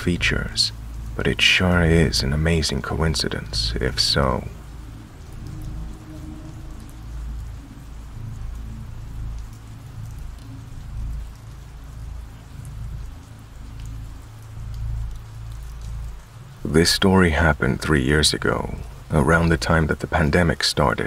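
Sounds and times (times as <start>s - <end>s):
low rumble: 0.0s - 17.8s
steady rain falling: 0.0s - 21.0s.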